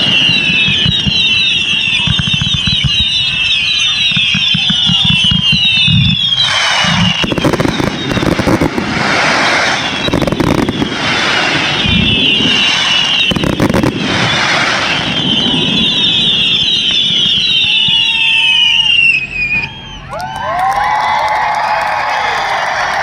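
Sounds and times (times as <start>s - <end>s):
fireworks crackling pops: 0.0s - 20.5s.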